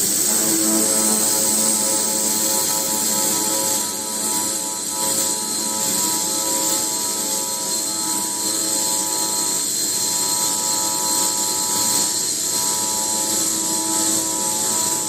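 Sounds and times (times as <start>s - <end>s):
metal sawing machine running: 0.0s - 15.0s.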